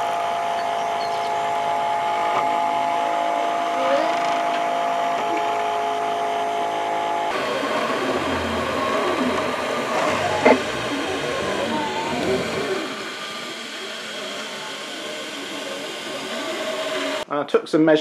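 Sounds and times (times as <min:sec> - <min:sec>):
stepper motors whining: 0:00.0 - 0:17.2
fan whirring: 0:00.0 - 0:17.3.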